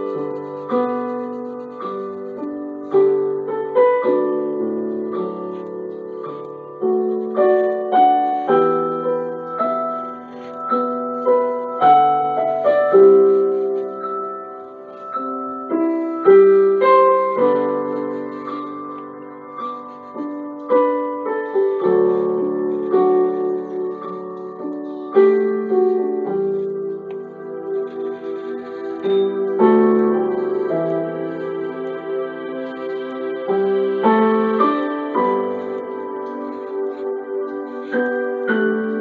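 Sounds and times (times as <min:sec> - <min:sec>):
slow solo piano: 0:00.0 - 0:39.0.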